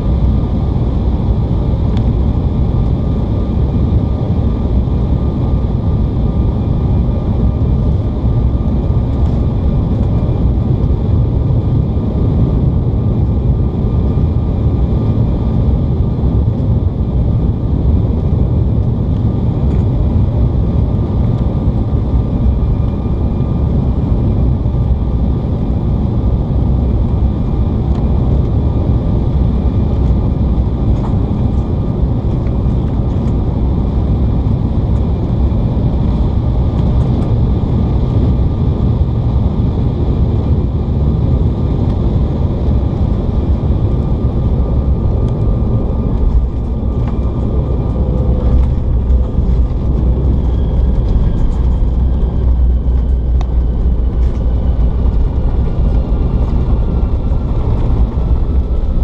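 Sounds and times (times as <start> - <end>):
airflow and jet engine rush: 0.0 - 59.0
faint steady whine: 0.0 - 59.0.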